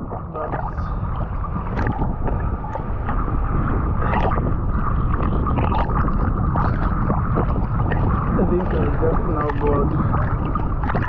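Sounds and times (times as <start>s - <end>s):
seawater sloshing and splashing: 0.0s - 11.0s
steady low rumble: 0.0s - 11.0s.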